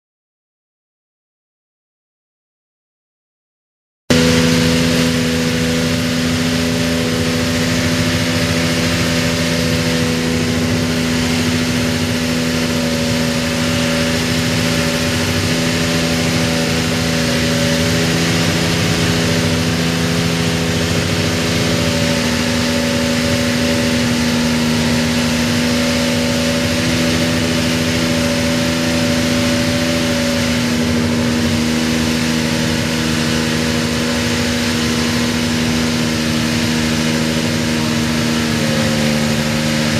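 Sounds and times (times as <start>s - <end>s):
racing car engine idling: 4.1s - 39.9s.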